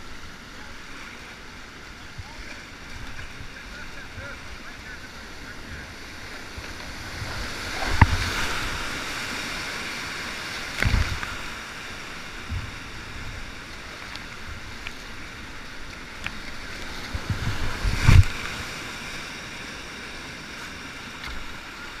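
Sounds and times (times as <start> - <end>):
whitewater rapids rushing: 0.0 - 22.0
water splashing on microphone: 2.0 - 19.6.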